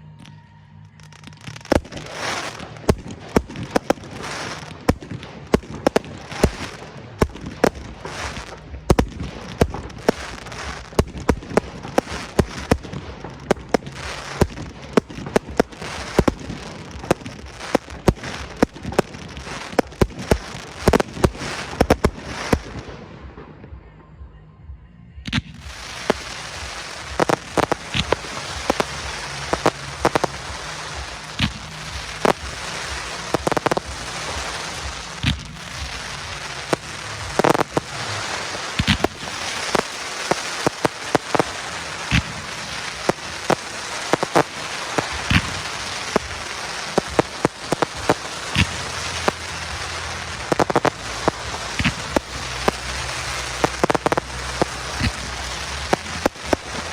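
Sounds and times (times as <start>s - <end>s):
fireworks crackling hiss: 0.0s - 23.5s, 25.3s - 56.9s
fireworks shells bursting: 1.0s - 22.9s, 25.6s - 56.9s.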